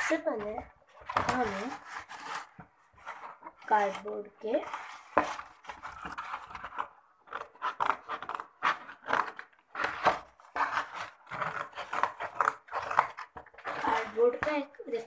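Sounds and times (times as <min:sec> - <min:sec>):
cardboard scraping and rustling: 0:00.0 - 0:15.0.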